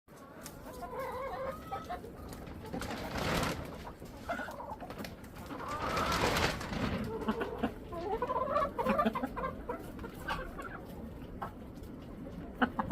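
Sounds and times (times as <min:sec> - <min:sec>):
hens clucking softly: 0:00.2 - 0:12.9.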